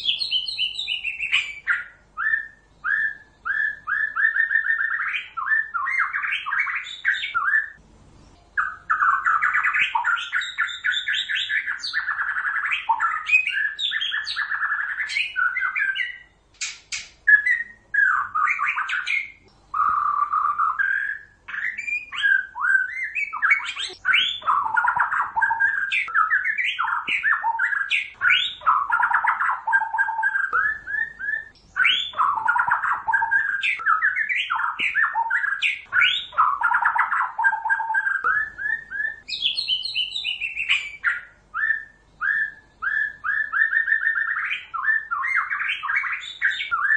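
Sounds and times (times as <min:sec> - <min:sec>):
bird singing whistled song: 0:00.0 - 0:46.9.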